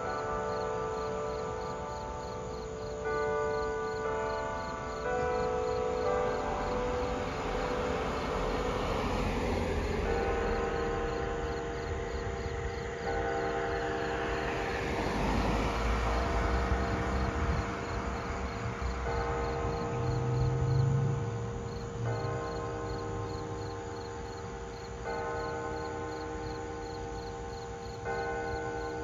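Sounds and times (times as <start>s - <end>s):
church bell ringing: 0.0s - 29.0s
insects chirping: 0.0s - 29.0s.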